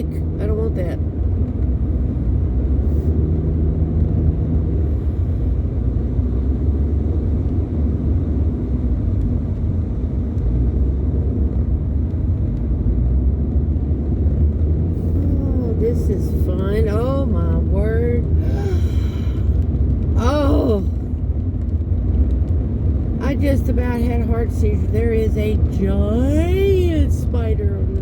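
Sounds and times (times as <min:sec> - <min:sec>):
car road noise: 0:00.0 - 0:28.0
faint engine hum: 0:00.0 - 0:28.0.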